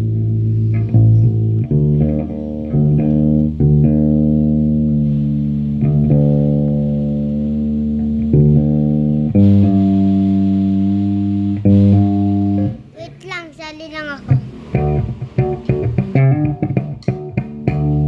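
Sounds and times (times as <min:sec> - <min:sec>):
guitar notes and chords: 0:00.0 - 0:18.0.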